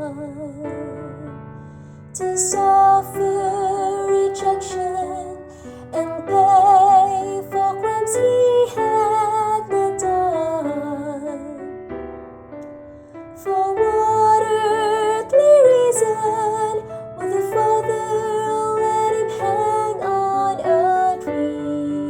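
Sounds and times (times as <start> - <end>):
piano accompaniment: 0.0 - 22.0
woman singing gospel song: 2.2 - 11.6, 13.4 - 22.0.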